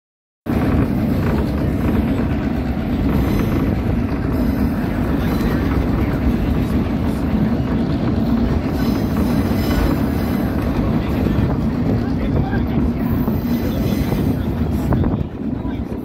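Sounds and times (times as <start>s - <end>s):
train wheels rolling on rails: 0.5s - 16.0s.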